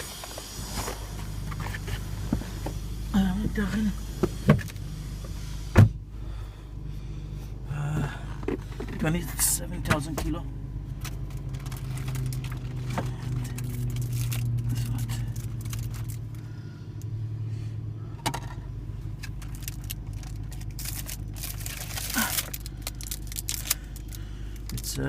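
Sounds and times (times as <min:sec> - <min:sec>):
low car cabin hum: 0:00.0 - 0:25.0.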